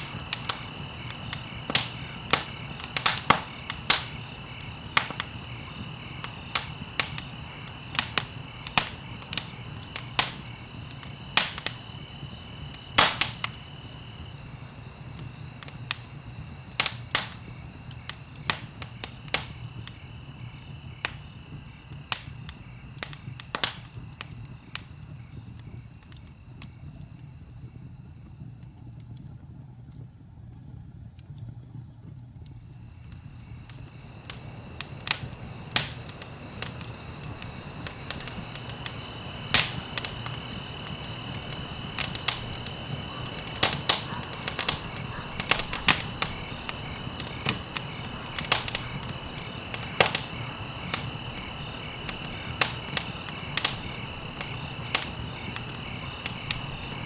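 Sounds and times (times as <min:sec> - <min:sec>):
crickets trilling: 0:00.0 - 0:57.0
wood fire crackling and popping: 0:00.0 - 0:57.0.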